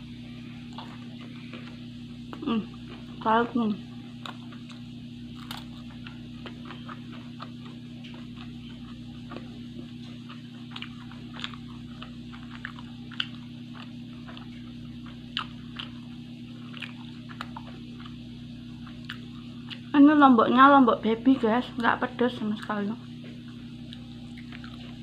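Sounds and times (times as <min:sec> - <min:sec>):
steady low hum: 0:00.0 - 0:25.0
person chewing: 0:00.5 - 0:03.2, 0:04.1 - 0:19.9, 0:23.3 - 0:25.0.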